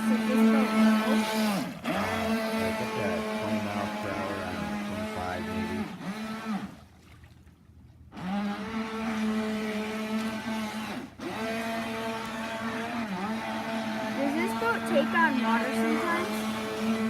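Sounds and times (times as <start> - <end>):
electric motor whining: 0.0 - 6.8, 8.1 - 17.0.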